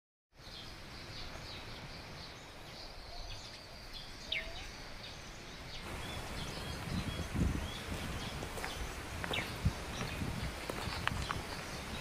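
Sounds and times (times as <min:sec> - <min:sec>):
steady outdoor hiss: 0:00.3 - 0:12.0
small birds chirping: 0:00.4 - 0:12.0.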